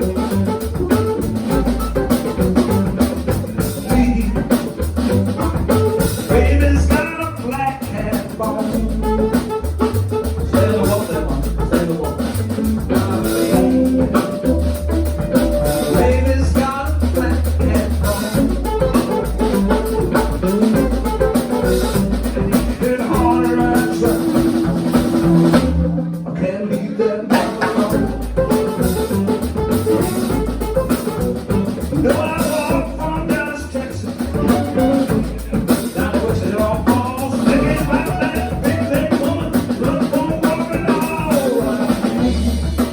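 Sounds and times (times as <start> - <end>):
person singing: 0.0 - 25.6, 26.3 - 42.9
bass guitar: 0.0 - 42.9
drum kit: 0.0 - 42.9.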